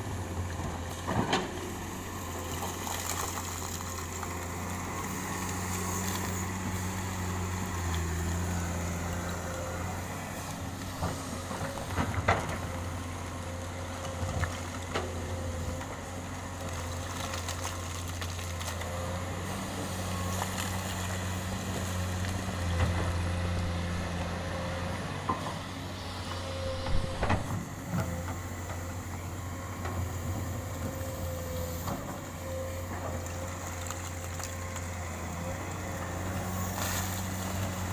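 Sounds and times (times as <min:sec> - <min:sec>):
excavator diesel engine droning: 0:00.0 - 0:37.9.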